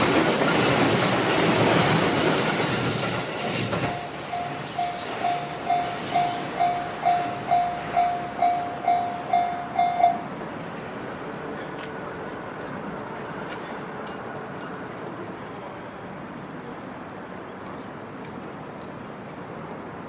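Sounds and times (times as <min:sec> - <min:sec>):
level-crossing warning bell: 0:01.2 - 0:10.3, 0:11.7 - 0:20.0
low outdoor noise: 0:03.9 - 0:20.0.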